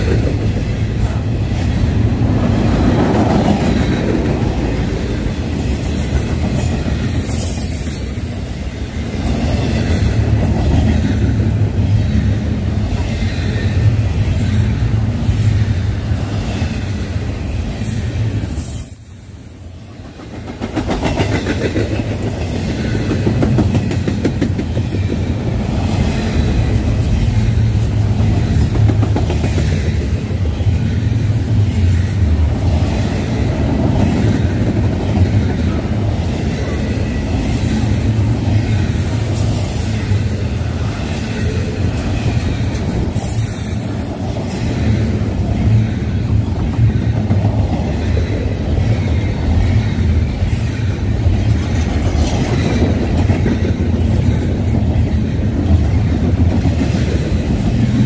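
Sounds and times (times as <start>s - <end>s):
freight train wheels clattering: 0.0s - 58.0s.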